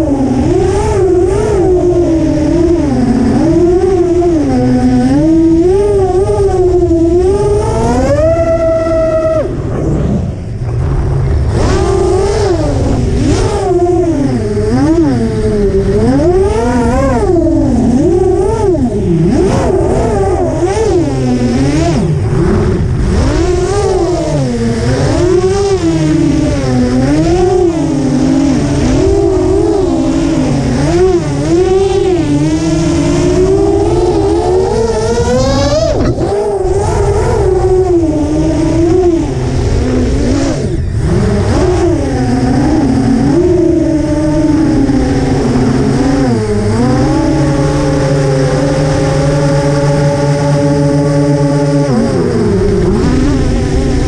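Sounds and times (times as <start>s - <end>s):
wind rush: 0.0s - 50.1s
quadcopter motors whining: 0.0s - 54.0s.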